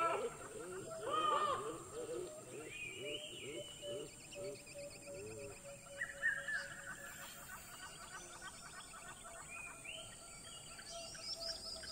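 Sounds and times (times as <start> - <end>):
wild birds chirping and trilling: 0.0 - 11.9.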